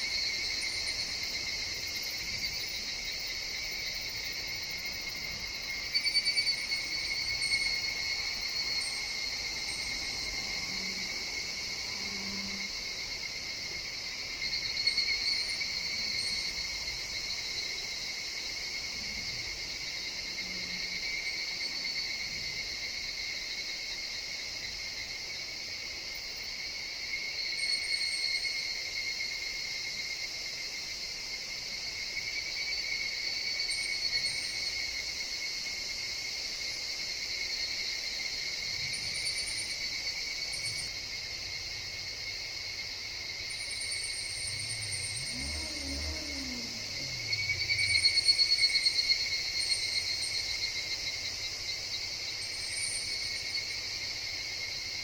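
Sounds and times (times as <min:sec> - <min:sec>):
cicadas shrill ringing: 0:00.0 - 0:55.0.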